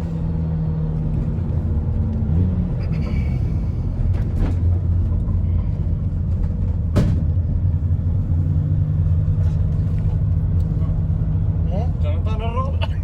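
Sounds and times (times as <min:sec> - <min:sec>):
diesel engine driving: 0:00.0 - 0:13.0
road noise: 0:00.0 - 0:13.0.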